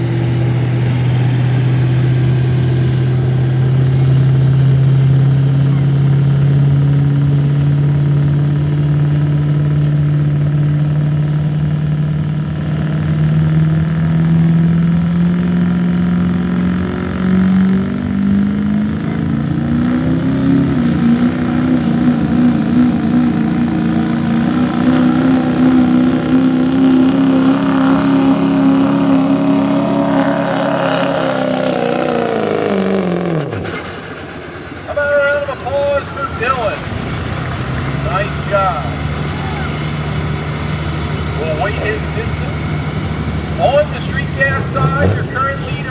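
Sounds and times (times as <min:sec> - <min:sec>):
diesel pickup engine at full throttle: 0:00.0 - 0:45.9.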